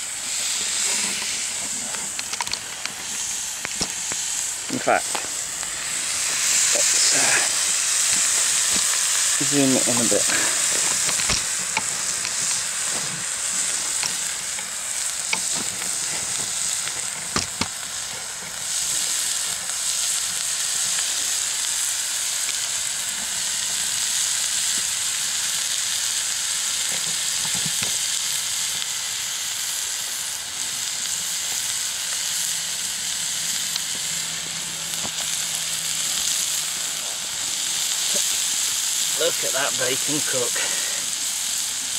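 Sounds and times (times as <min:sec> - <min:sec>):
bacon sizzling in a pan: 0:00.0 - 0:41.9.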